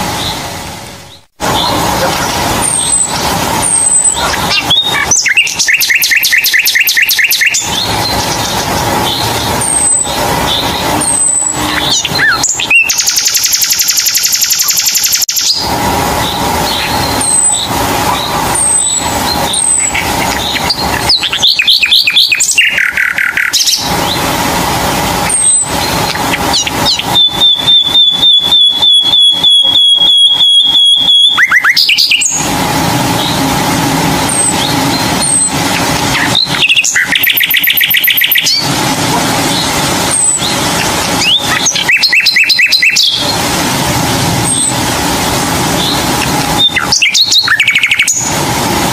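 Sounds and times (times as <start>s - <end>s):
birds chirping and trilling: 0.0s - 24.5s, 25.2s - 43.8s, 44.4s - 48.4s
steady background noise: 0.0s - 48.9s.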